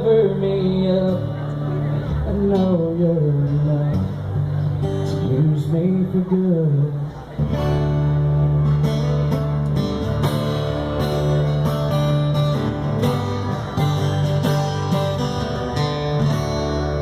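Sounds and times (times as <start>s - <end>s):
guitar strumming: 0.0s - 17.0s
live band playing slow song: 0.0s - 17.0s.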